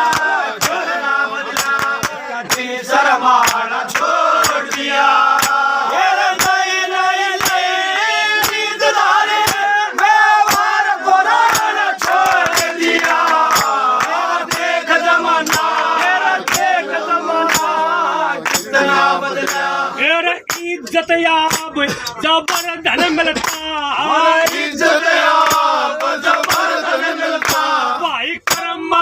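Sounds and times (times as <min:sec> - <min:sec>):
steady drum beat: 0:00.0 - 0:19.8, 0:20.5 - 0:28.8.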